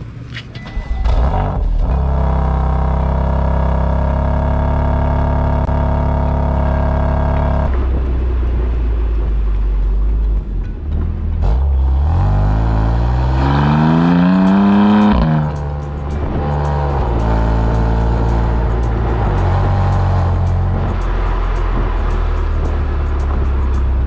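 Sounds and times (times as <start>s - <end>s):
car engine revving: 0.9s - 24.0s.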